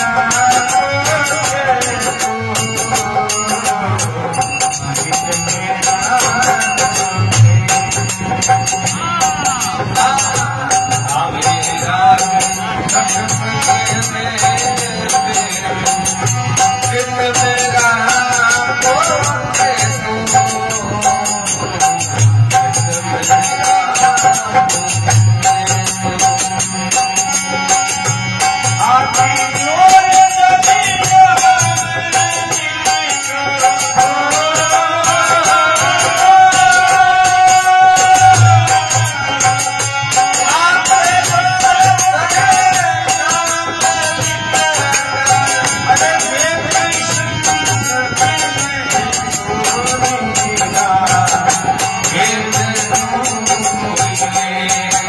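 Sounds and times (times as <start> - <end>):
harmonium: 0.0 - 55.0
man singing: 0.0 - 55.0
percussion beat: 0.0 - 55.0.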